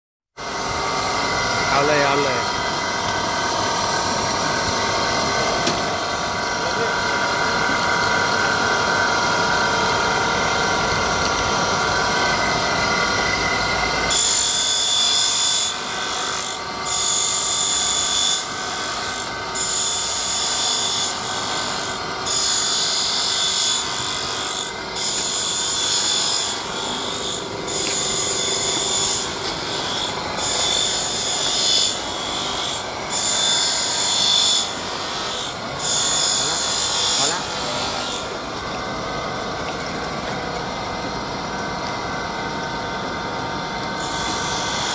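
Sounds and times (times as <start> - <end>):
book binding machine humming: 0.4 - 41.3.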